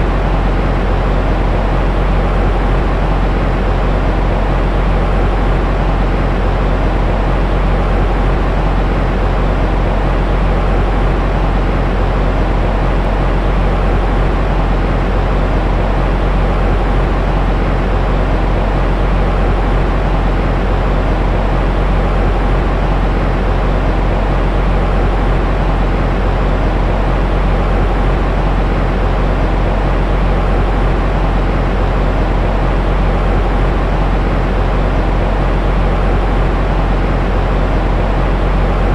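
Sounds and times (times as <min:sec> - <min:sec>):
deep white noise hiss: 0:00.0 - 0:38.9.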